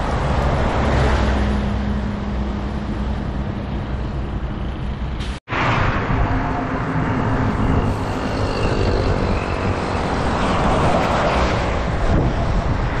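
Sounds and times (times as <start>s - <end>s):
bus passing close by: 0.0s - 13.0s
highway traffic: 0.0s - 13.0s.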